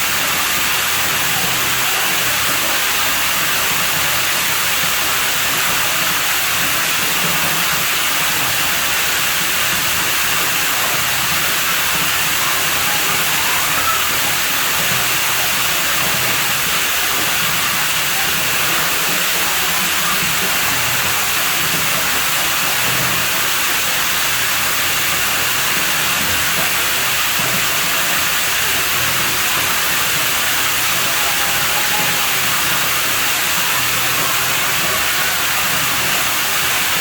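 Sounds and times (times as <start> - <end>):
running water hiss: 0.0 - 37.0.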